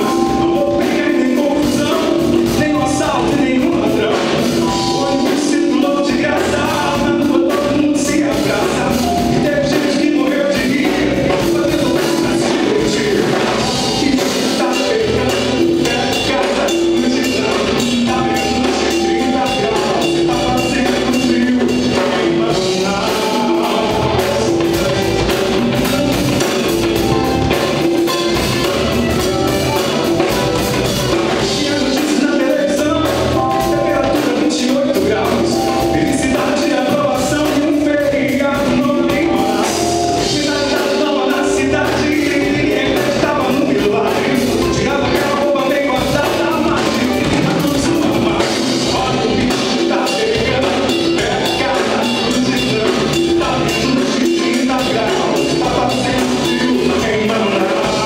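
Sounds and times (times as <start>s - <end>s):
drum kit: 0.0s - 58.0s
guitars: 0.0s - 58.0s
man singing: 0.0s - 58.0s
percussion: 0.0s - 58.0s.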